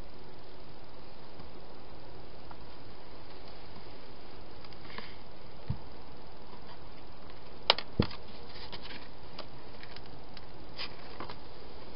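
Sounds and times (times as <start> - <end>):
microphone hiss: 0.0 - 11.9.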